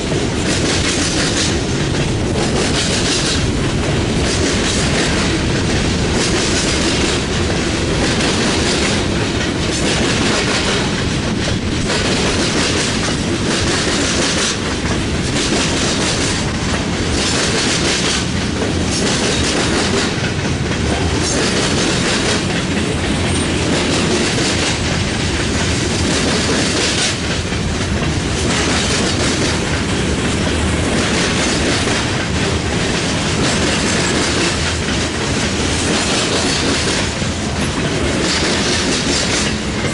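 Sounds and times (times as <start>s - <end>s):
freight train cars rolling on rails: 0.0s - 39.9s.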